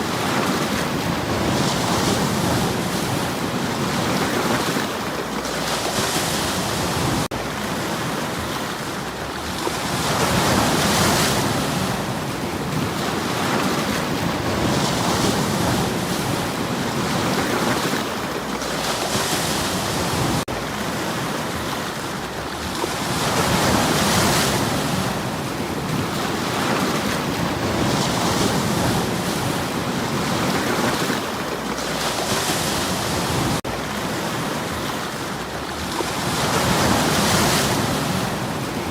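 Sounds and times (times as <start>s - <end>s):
waves breaking on stony shore: 0.0s - 38.9s.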